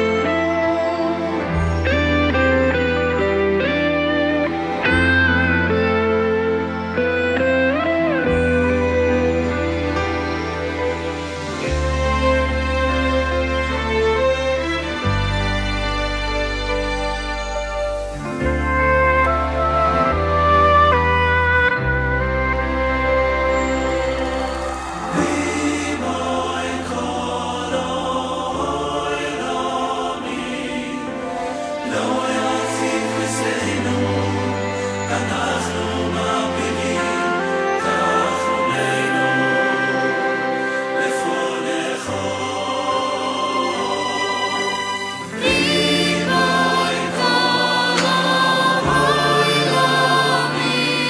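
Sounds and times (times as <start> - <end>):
voices singing sustained chords: 0.0 - 51.0.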